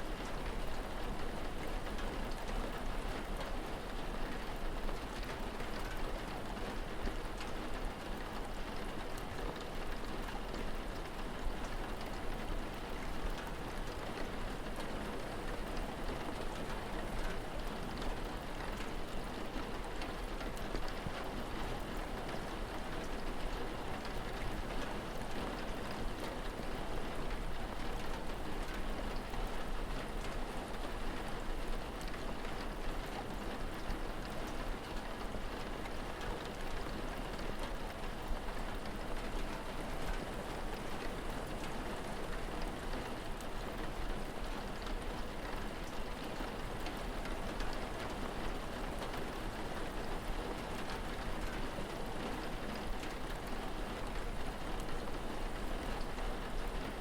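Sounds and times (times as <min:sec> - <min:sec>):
rain drop ticks: 0:04.3 - 0:57.0.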